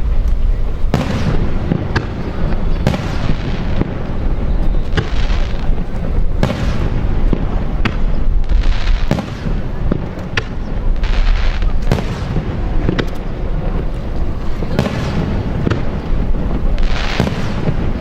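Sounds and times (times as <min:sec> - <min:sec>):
continuous low rumble: 0:00.0 - 0:18.0.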